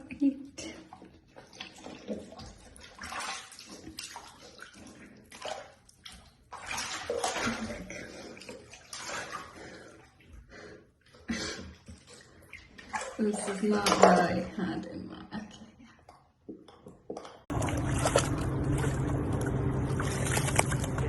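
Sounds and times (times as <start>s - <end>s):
water splashing in a bathtub: 0.0s - 21.0s.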